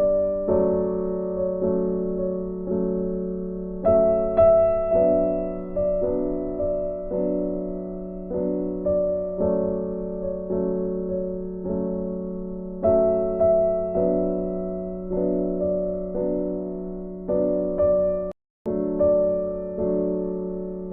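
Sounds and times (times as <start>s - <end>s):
gentle keyboard piece: 0.0s - 20.9s.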